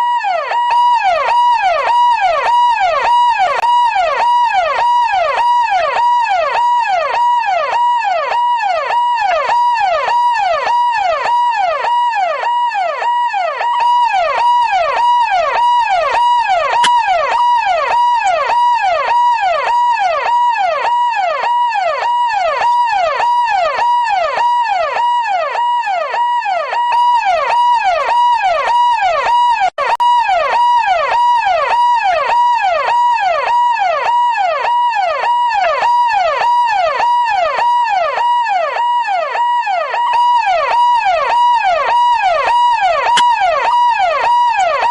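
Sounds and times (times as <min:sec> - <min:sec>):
electronic siren yelp: 0:00.0 - 0:44.9.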